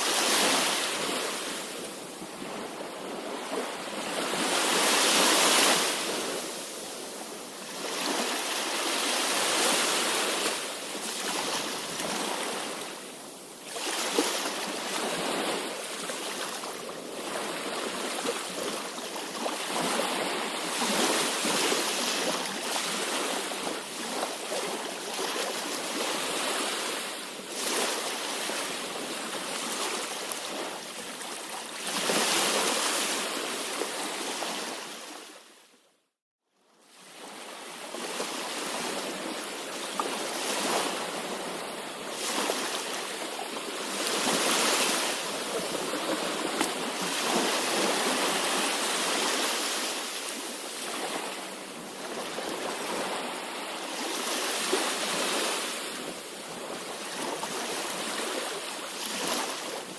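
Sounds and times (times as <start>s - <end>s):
sea waves washing on shore: 0.0s - 35.4s, 37.0s - 59.9s.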